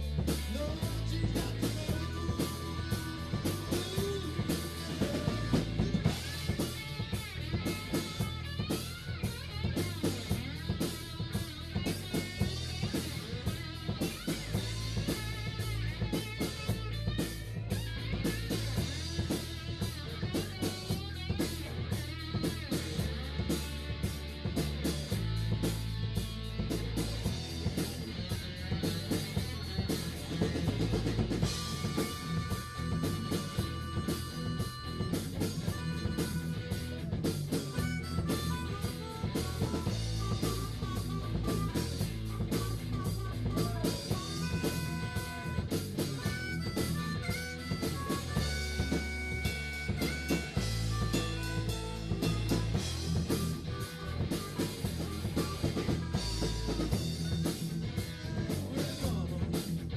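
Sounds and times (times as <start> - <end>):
harmonica melody: 0.0 - 59.3
blues-rock band playing: 0.0 - 59.9.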